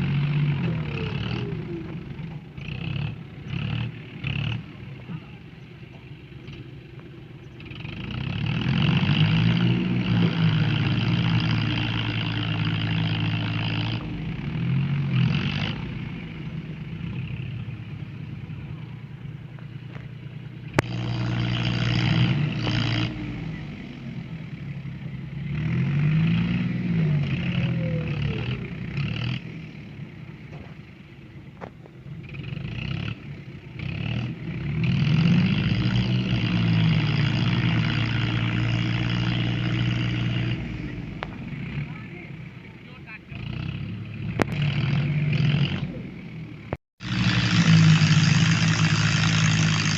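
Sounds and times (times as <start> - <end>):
tractor engine revving hard: 0.0 - 31.3, 32.1 - 49.9.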